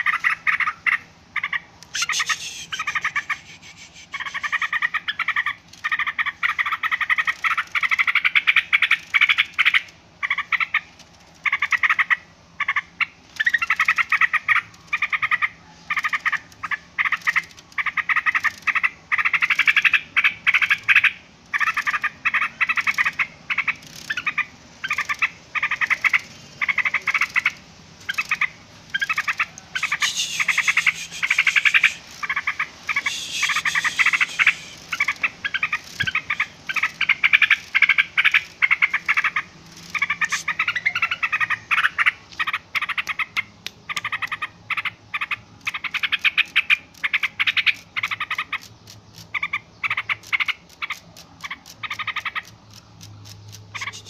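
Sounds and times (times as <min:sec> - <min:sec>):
bulbul chattering calls: 0:00.0 - 0:54.0.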